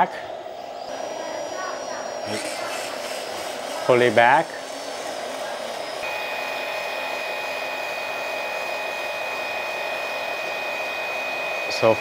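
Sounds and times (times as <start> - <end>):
hydraulic pump running: 0.0 - 12.0
thin high whine: 0.0 - 12.0.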